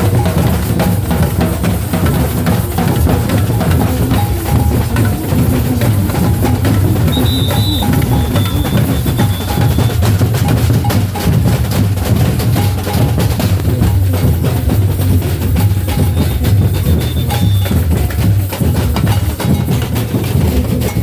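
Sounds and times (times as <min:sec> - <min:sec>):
deep bass drums: 0:00.0 - 0:21.0
higher percussion strokes: 0:00.0 - 0:21.0
samba drum ensemble playing: 0:00.0 - 0:21.0.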